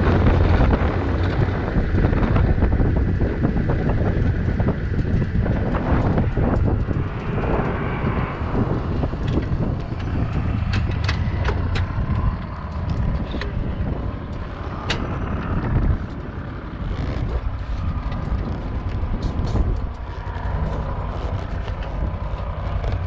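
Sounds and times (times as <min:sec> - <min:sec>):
low vehicle rumble: 0:00.0 - 0:23.0
wind on the microphone: 0:00.0 - 0:23.0
sharp clicks and knocks: 0:03.9 - 0:23.0.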